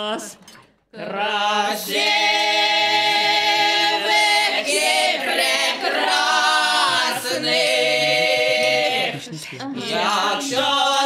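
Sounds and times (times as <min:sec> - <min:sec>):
group singing in close harmony: 0:01.0 - 0:11.0.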